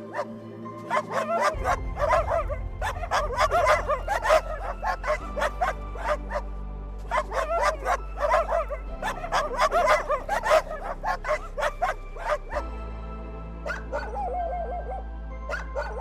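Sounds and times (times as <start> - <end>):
background music with low drone: 0.0 - 16.0
dog barking: 0.9 - 6.4, 7.1 - 12.6, 13.6 - 16.0.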